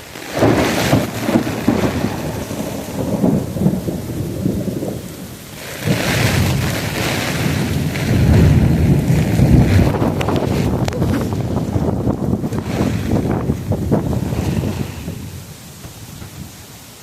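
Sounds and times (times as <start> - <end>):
pouring rain hiss: 0.0 - 17.0
thunder rumbling: 0.0 - 17.0
wind: 0.0 - 17.0.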